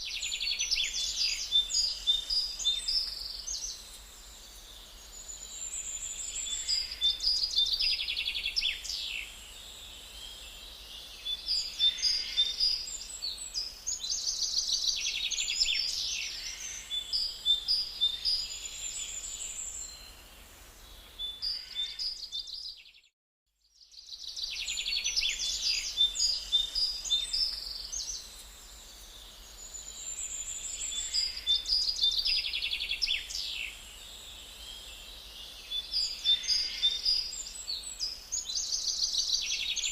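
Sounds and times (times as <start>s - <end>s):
songbirds singing: 0.0s - 23.1s, 23.7s - 39.9s.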